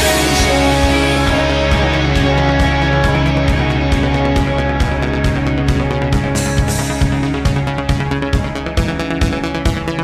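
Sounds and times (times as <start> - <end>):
sustained synth chords: 0.0 - 10.0.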